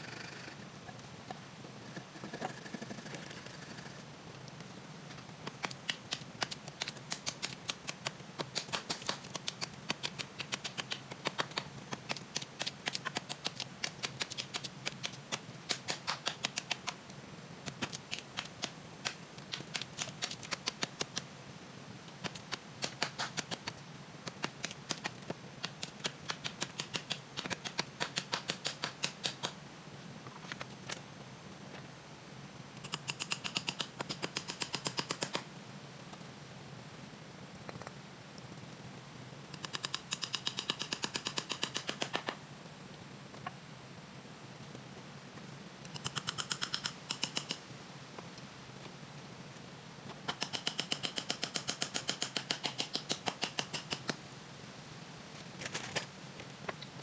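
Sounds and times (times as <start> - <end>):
steady low hiss: 0.0 - 57.0.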